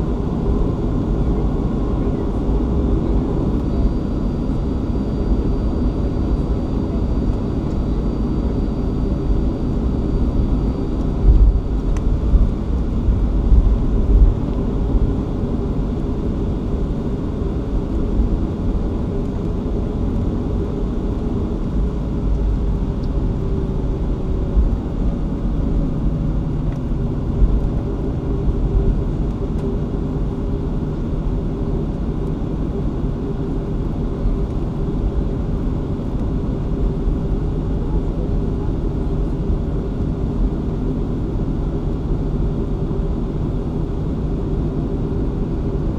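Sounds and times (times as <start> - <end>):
jet engine rumble and hum: 0.0 - 45.9.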